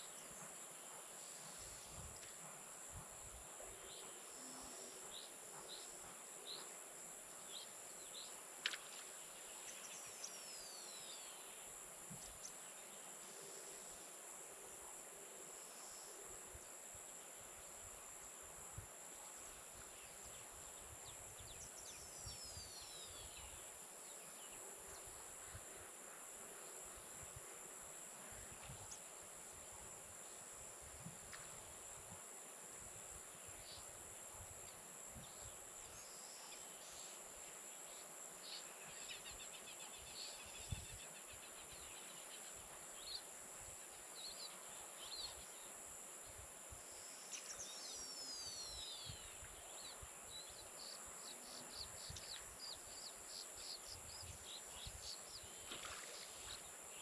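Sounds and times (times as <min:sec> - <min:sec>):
insect chorus of crickets: 0:00.0 - 0:57.0.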